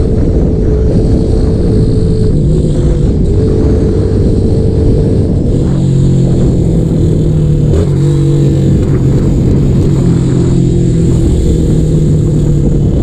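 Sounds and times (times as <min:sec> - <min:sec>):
loud motorcycle engine: 0:00.0 - 0:13.0.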